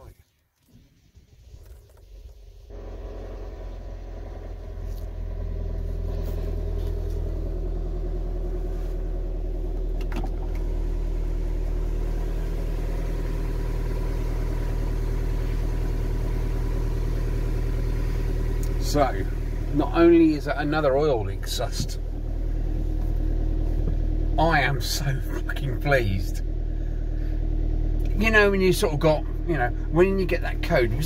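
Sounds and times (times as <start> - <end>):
diesel engine starting and idling: 0.7 - 31.0.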